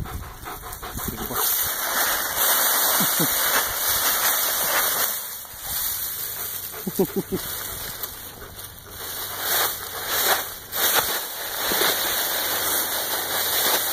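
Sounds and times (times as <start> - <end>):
dry leaves rustling: 0.4 - 13.9.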